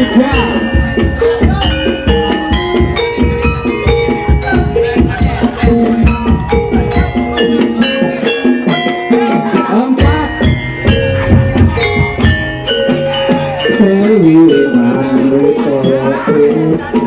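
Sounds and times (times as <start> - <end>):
hand drums beating: 0.0 - 17.0
metal-keyed instruments ringing melody: 0.0 - 17.0.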